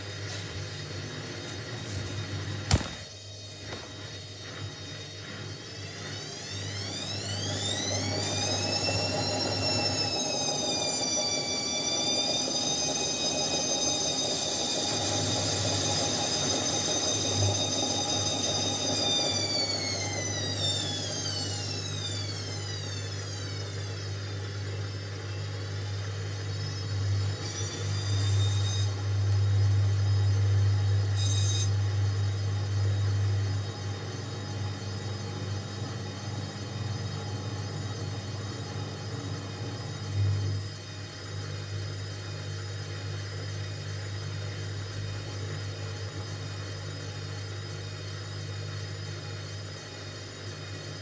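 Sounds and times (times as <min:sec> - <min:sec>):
washing machine motor whining: 0:00.0 - 0:51.0.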